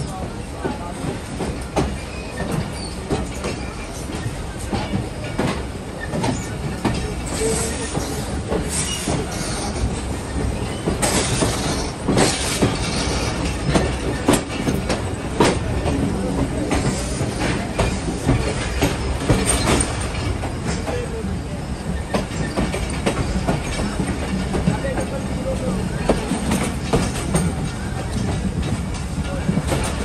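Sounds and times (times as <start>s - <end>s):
train rumbling on track: 0.0s - 30.0s
wheels clacking over rails: 0.2s - 30.0s.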